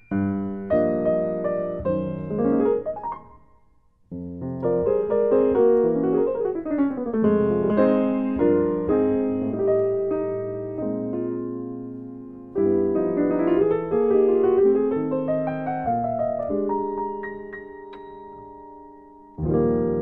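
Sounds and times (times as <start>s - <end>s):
jazz piano playing: 0.0s - 20.0s.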